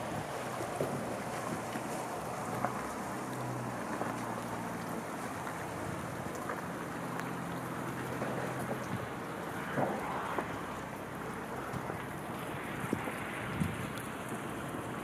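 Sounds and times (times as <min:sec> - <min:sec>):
tyres swishing through water: 0:00.0 - 0:15.0.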